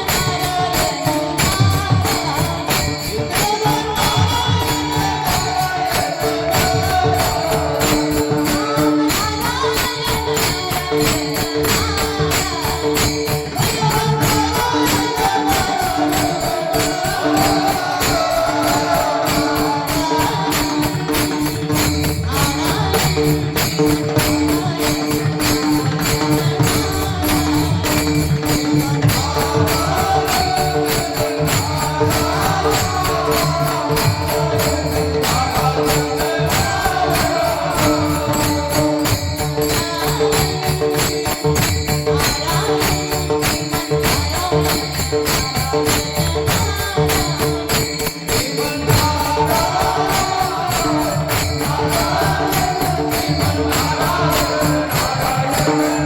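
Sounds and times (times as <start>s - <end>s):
drum beat: 0.0s - 47.6s, 48.3s - 56.0s
hand cymbals jingling: 0.0s - 56.0s.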